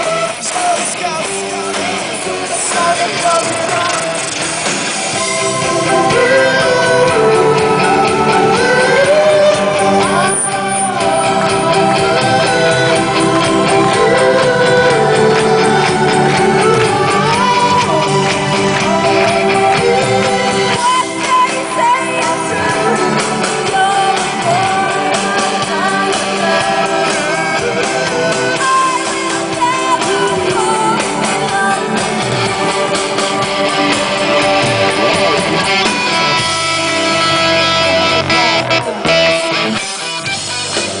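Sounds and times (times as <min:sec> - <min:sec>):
person singing: 0:00.0 - 0:04.4, 0:05.1 - 0:41.0
drums: 0:00.0 - 0:41.0
guitar: 0:00.0 - 0:41.0
keyboards: 0:00.0 - 0:41.0.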